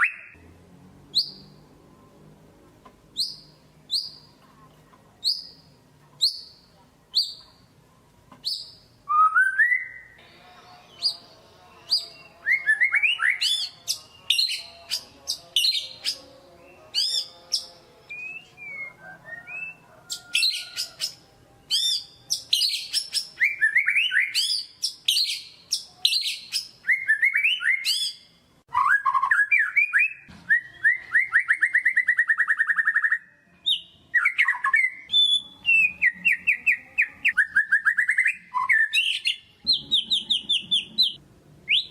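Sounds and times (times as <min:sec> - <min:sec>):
bird singing varied song: 0:00.0 - 0:00.4, 0:01.1 - 0:01.7, 0:03.1 - 0:04.4, 0:05.2 - 0:07.7, 0:08.3 - 0:41.9.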